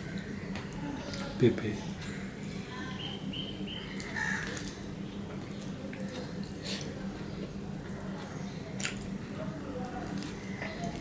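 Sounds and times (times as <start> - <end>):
man chewing wet food: 0.0 - 11.0
steady low hum: 0.0 - 11.0.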